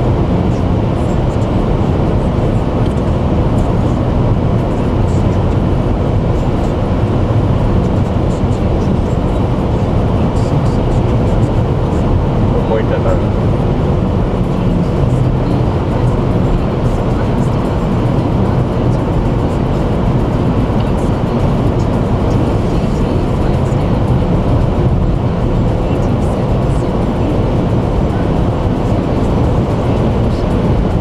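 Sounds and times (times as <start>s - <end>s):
car cabin road noise: 0.0s - 31.0s.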